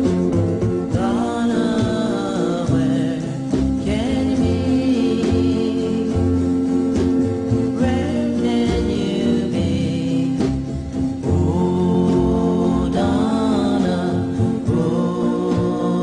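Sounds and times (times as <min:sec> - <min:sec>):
choir-like vocals: 0:00.0 - 0:16.0
instrumental backing music: 0:00.0 - 0:16.0
person singing long notes: 0:00.8 - 0:16.0.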